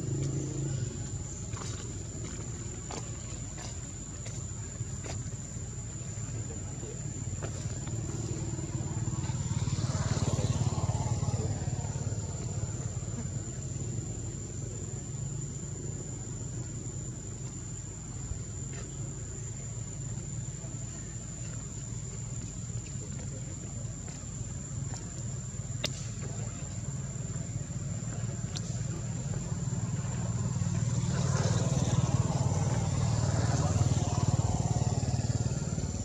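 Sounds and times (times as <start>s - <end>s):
rumble of motor traffic: 0.0s - 36.0s
vehicle engine: 0.0s - 36.0s.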